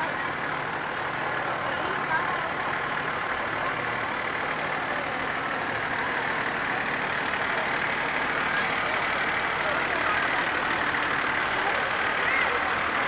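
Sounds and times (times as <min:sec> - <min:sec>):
large road vehicle passing: 0:00.0 - 0:13.0.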